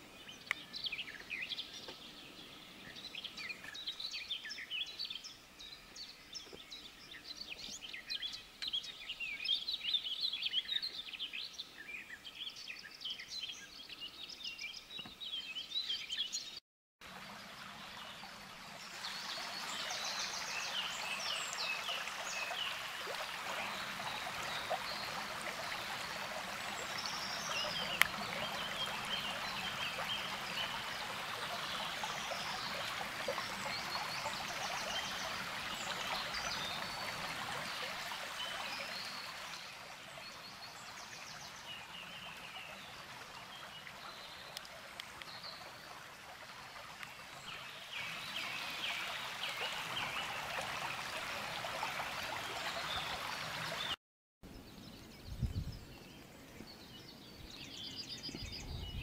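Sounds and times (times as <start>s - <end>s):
wild birds singing: 0.0s - 16.6s, 17.4s - 59.0s.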